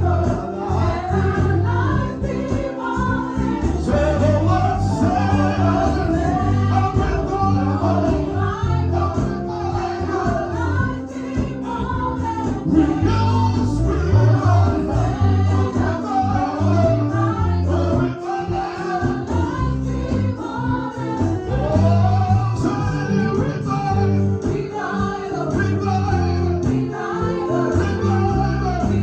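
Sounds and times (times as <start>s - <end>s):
band with bass and drums: 0.0s - 29.0s
group of singers: 0.0s - 29.0s.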